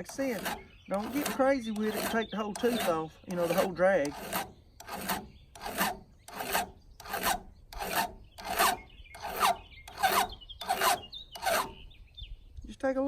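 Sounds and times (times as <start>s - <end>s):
hand file rasping on chain: 0.0s - 11.8s.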